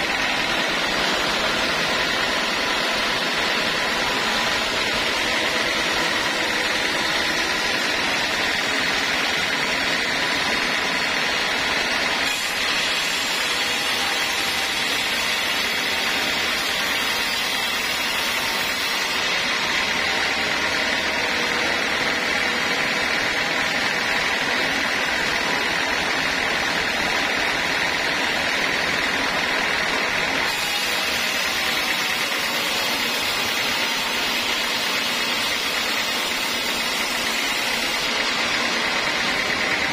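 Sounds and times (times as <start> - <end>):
band saw blade whine: 0.0 - 39.9
rush of sawing wood: 0.0 - 39.9.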